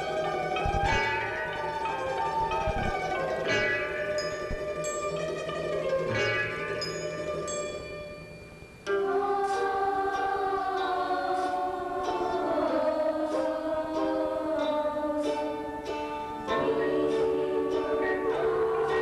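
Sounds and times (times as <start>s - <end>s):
youth choir singing in harmony: 0.0s - 6.1s, 8.9s - 19.0s.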